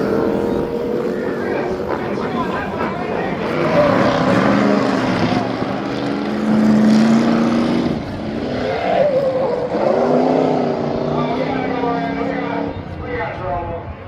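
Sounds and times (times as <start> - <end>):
engine revving: 0.0 - 12.8.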